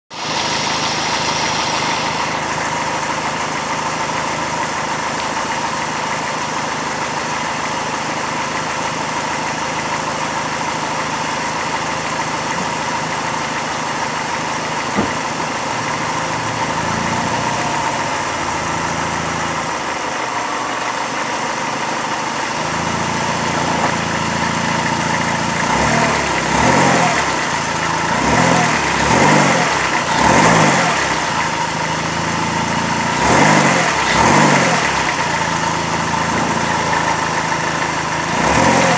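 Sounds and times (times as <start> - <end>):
car engine idling and revving: 0.1 - 38.9.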